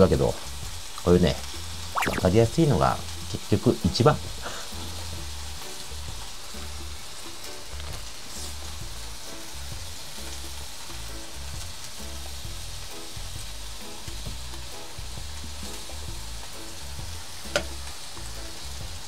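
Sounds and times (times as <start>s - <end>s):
meat sizzling on a grill: 0.0s - 19.0s
background music with bass line: 0.6s - 19.0s.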